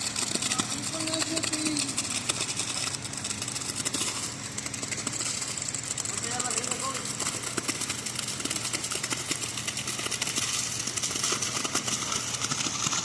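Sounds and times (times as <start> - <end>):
engine running steadily: 0.0 - 13.0
fast rattling clatter: 0.0 - 13.0.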